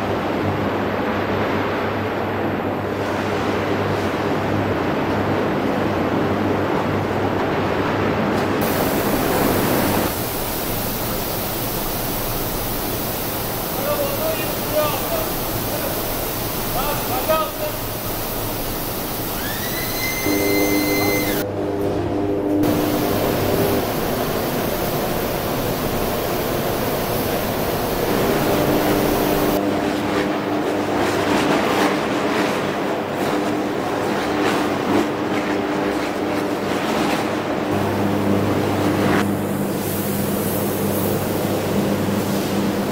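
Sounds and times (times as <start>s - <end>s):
furnace roaring: 0.0s - 42.9s
electrical hum: 4.4s - 36.6s, 37.4s - 42.9s.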